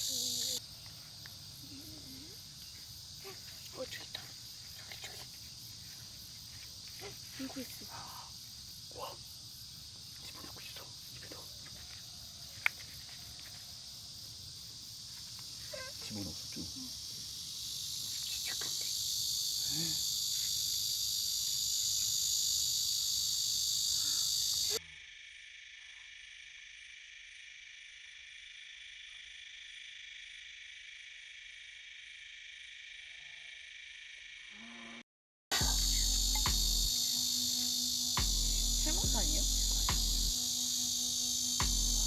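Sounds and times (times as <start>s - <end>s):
insects chirring: 0.0s - 34.7s, 35.5s - 42.0s.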